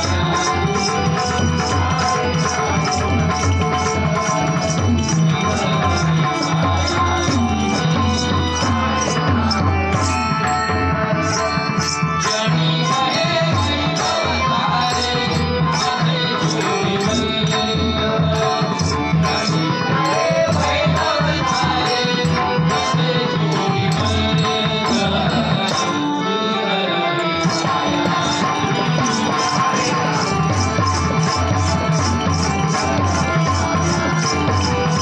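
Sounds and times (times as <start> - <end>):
hand drums: 0.0 - 26.2, 27.4 - 35.0
harmonium melody: 0.0 - 35.0
person singing: 0.0 - 35.0.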